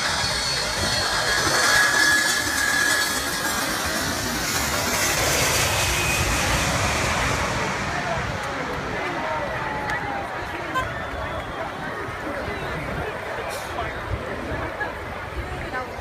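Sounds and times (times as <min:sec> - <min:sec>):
jet engines roaring overhead: 0:00.0 - 0:16.0.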